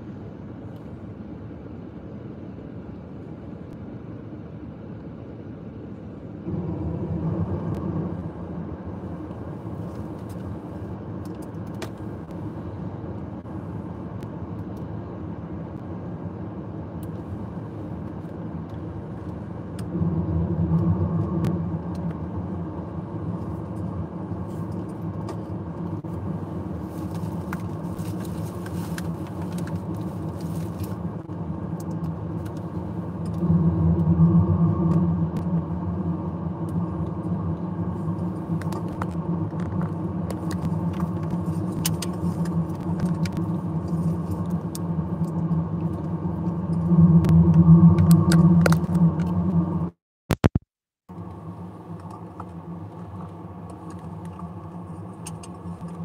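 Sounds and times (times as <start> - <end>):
car rumble inside cabin: 5.3 - 50.0, 51.1 - 56.0.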